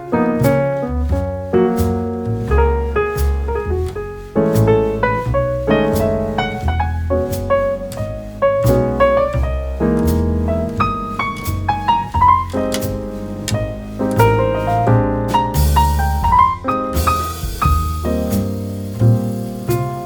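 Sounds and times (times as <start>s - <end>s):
jazzy piano music with drums: 0.0s - 20.0s.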